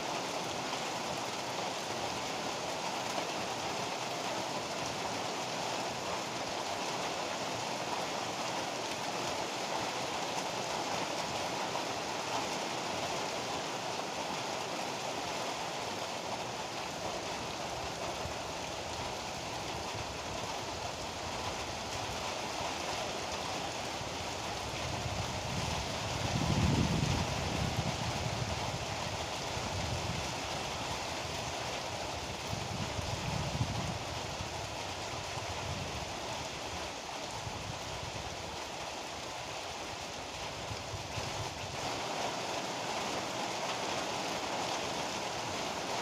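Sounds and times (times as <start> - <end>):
heavy rain pouring: 0.0 - 46.0.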